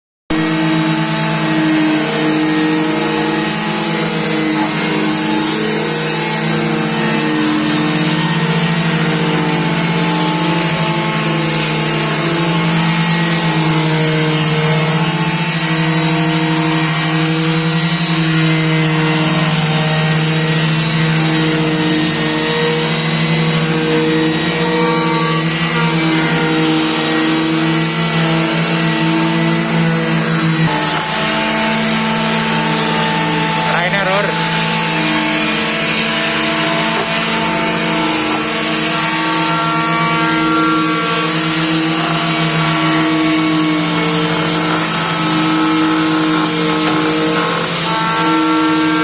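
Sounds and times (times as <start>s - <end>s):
electric sander on wood: 0.3s - 49.0s.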